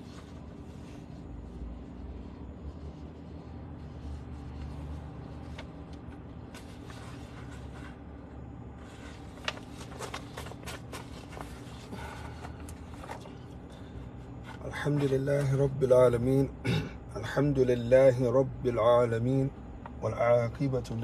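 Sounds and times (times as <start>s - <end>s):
low hum inside car: 0.0s - 21.0s.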